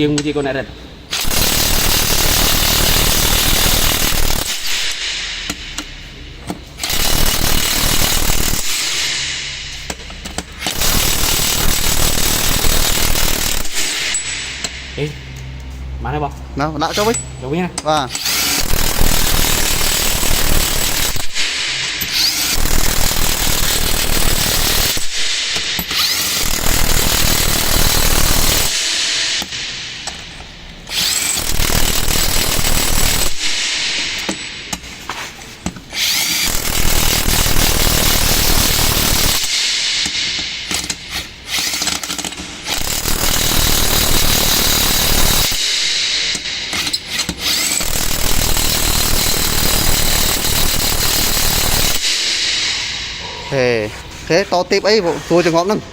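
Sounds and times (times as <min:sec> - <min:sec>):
impact wrench hammering: 0:00.0 - 0:15.8, 0:16.8 - 0:53.5.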